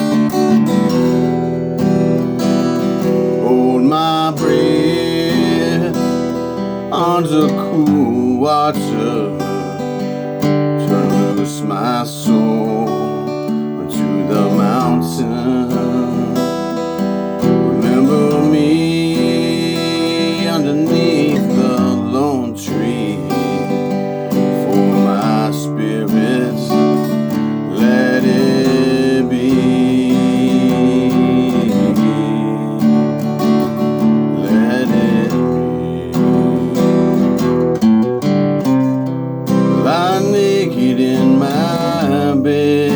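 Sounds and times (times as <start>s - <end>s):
acoustic guitar strumming: 0.0s - 42.9s
person singing long notes: 3.3s - 16.8s, 17.6s - 37.6s, 39.8s - 42.9s.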